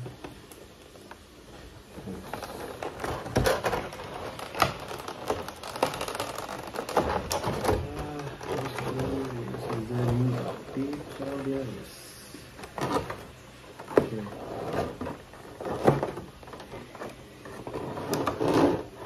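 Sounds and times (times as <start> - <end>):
plastic packaging crinkling: 0.0 - 18.9.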